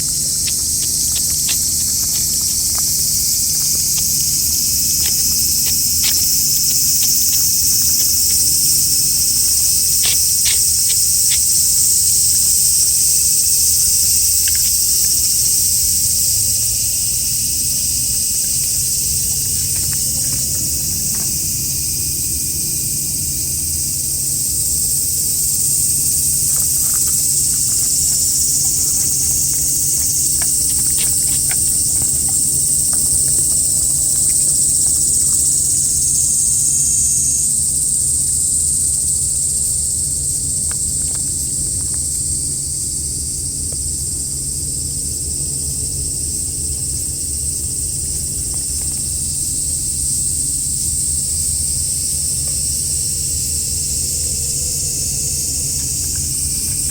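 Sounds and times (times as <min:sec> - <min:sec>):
insects shrilling: 0:00.0 - 0:42.4, 0:46.4 - 0:56.9.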